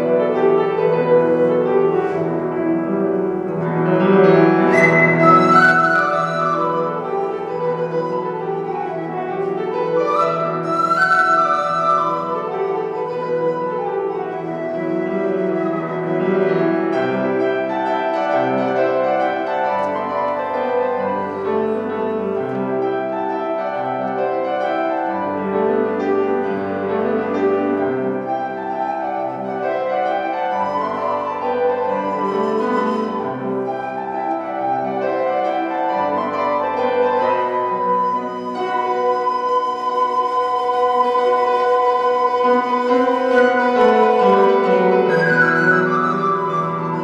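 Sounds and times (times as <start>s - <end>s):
grand piano playing chords: 0.0s - 47.0s
pan flute held notes: 0.0s - 47.0s.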